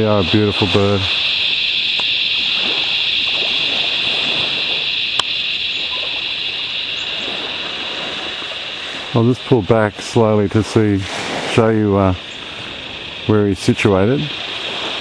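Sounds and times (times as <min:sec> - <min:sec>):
high-pitched buzzing drone: 0:00.0 - 0:15.0
rushing background noise: 0:00.0 - 0:15.0.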